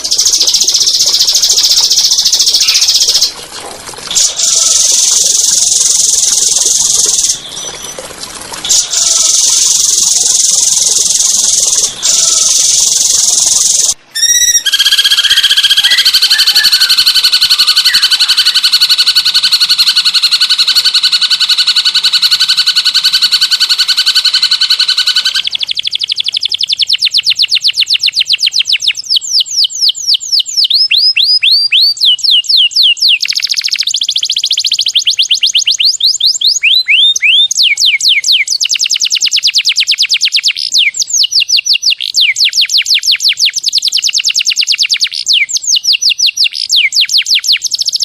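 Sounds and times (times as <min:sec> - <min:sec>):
songbird trilling and whistling: 0:00.0 - 0:03.4, 0:04.1 - 0:48.0.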